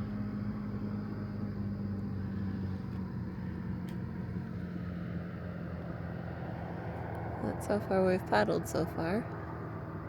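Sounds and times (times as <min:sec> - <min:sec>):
motorboat engine droning: 0:00.0 - 0:10.0.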